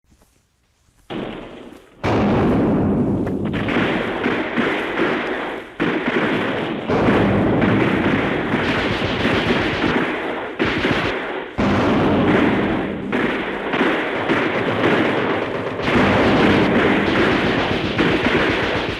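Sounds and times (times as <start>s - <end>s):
continuous gunfire: 1.1s - 18.9s
explosions: 1.1s - 18.9s.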